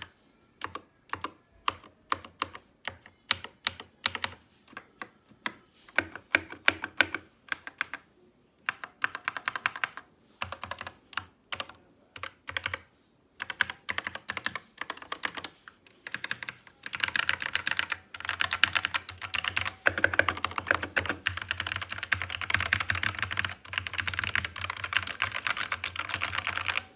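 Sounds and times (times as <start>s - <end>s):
mechanical keyboard typing: 0.0s - 26.9s.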